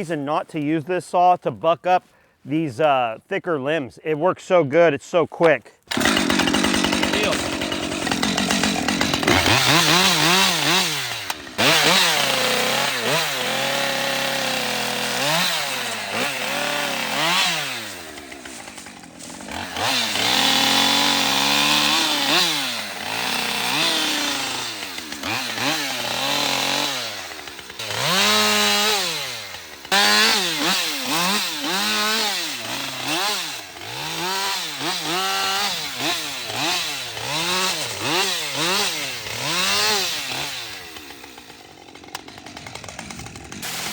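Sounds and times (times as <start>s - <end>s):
chainsaw cutting wood: 5.8s - 43.9s.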